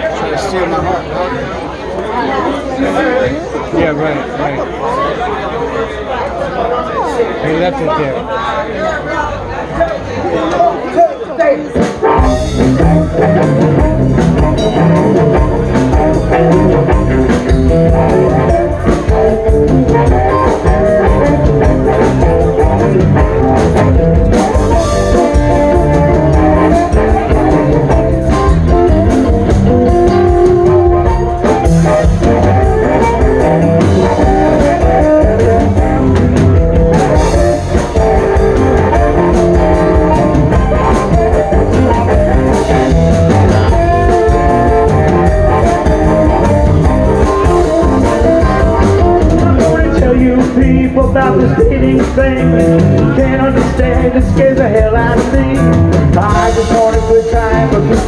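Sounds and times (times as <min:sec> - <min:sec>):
live blues band playing: 0:10.2 - 0:58.0.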